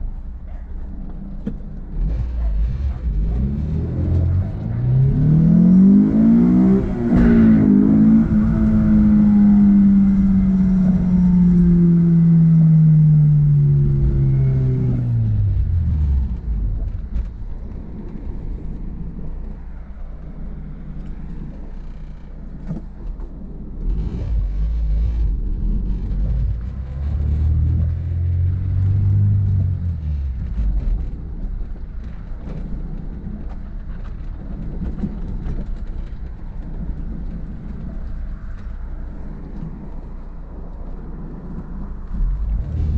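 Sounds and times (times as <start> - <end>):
car engine revving: 1.1 - 42.9.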